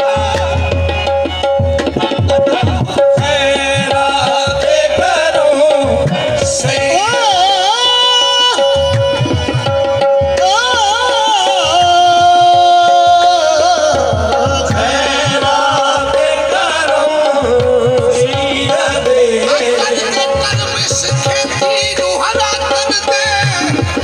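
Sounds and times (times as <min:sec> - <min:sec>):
harmonium chords: 0:00.0 - 0:24.0.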